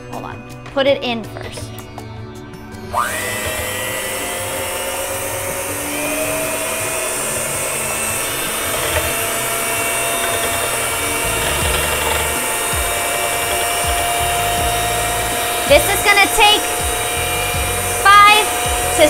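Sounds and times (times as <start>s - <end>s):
electric hand mixer whipping cream: 2.9s - 19.0s.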